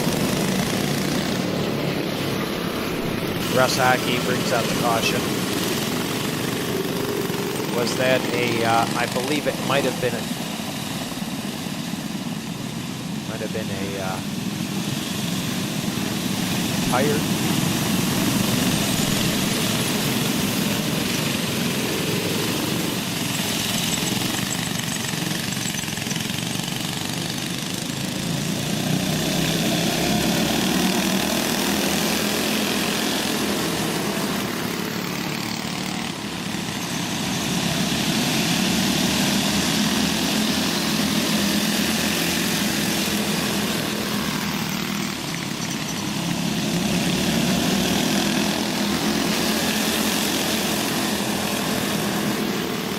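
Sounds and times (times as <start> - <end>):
go-kart engines racing: 0.0 - 52.9.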